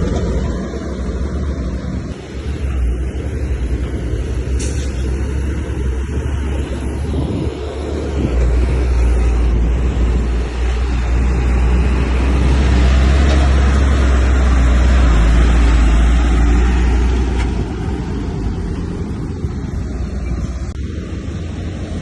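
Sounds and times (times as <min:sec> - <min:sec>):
diesel earthmoving machinery rumbling: 0:00.0 - 0:22.0.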